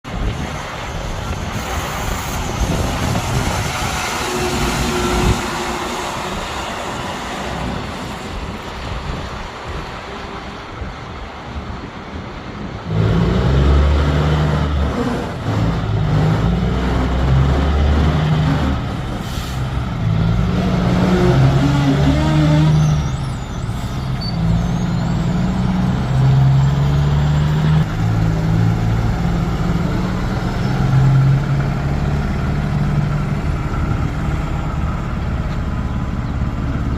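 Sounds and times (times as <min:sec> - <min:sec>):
steady traffic noise: 0:00.0 - 0:36.9
diesel truck driving past: 0:00.1 - 0:36.9.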